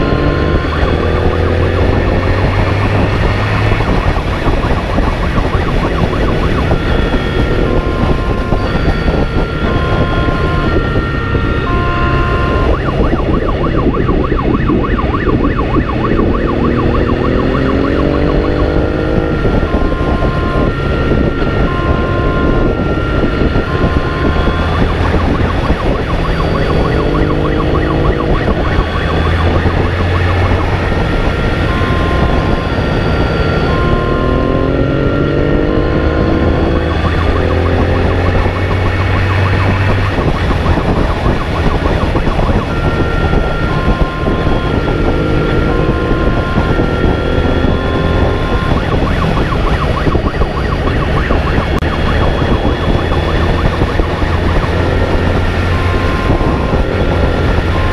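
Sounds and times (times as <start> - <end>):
emergency siren: 0.0 - 57.9
vehicle engine accelerating: 0.0 - 57.9.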